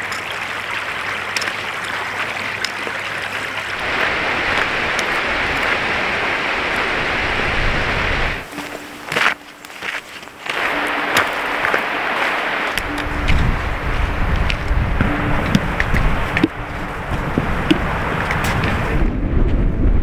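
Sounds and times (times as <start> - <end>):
rushing river water: 0.0 - 19.1.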